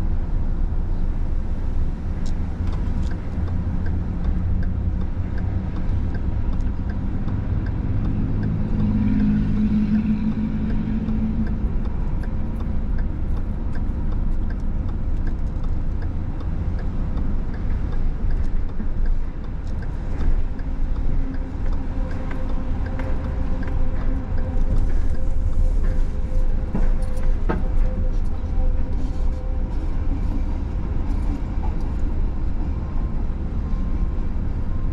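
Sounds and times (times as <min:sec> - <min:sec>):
road vehicles rumbling: 0:00.0 - 0:34.9.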